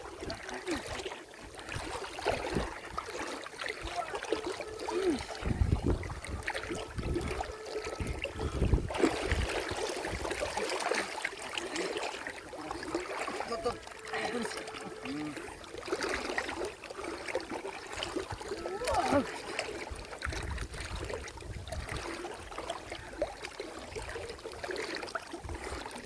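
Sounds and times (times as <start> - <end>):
low water surges: 0.0 - 26.0
water sloshing and splashing: 0.0 - 26.0.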